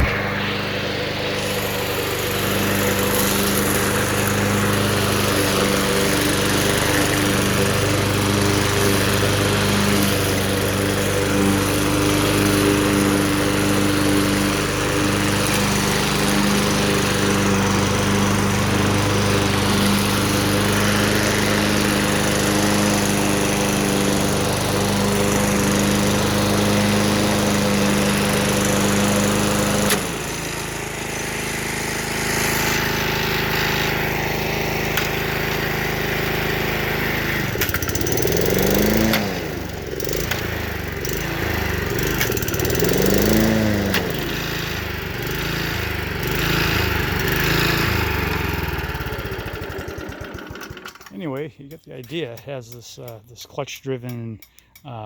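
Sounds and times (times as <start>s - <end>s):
lawn mower engine running: 0.0s - 51.7s.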